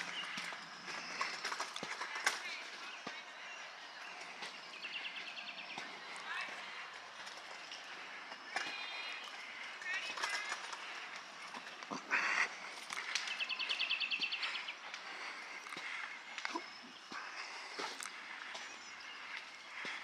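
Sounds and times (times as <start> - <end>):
birds chirping: 0.0 - 20.0
footsteps on a trail: 0.0 - 20.0
songbirds singing: 0.0 - 20.0.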